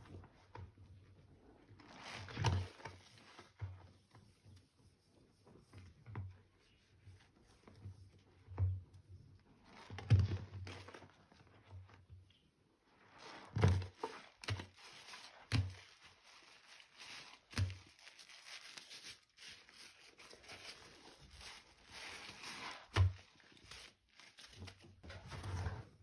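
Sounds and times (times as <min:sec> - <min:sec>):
sponge squelching in soapy water: 0:00.2 - 0:08.5, 0:12.8 - 0:25.9.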